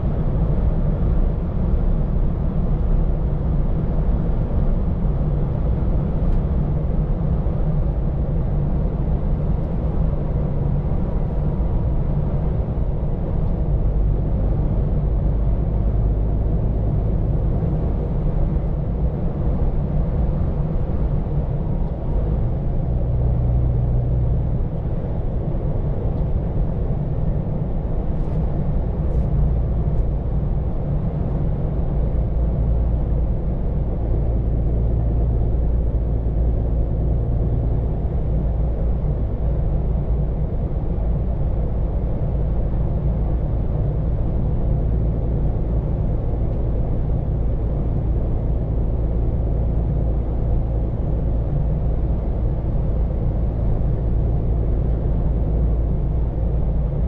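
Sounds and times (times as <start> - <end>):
road noise: 0.0 - 57.0
truck engine drone: 5.6 - 57.0.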